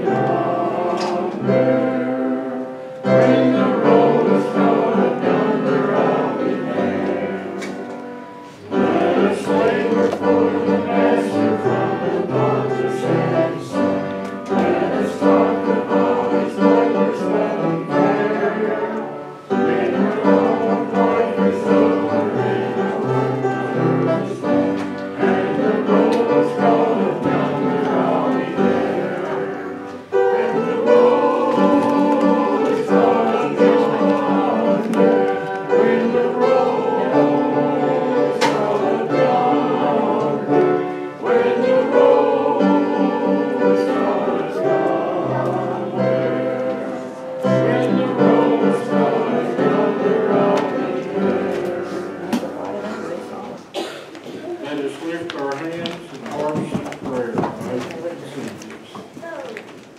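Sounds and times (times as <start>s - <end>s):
congregation singing a hymn: 0.0s - 54.1s
instrumental accompaniment: 0.0s - 54.4s.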